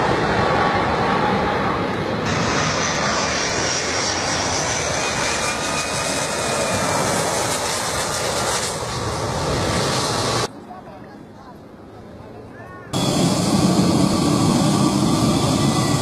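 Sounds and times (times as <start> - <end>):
high engine whine: 0.0 - 10.5, 13.0 - 16.0
jet engines roaring overhead: 0.0 - 16.0.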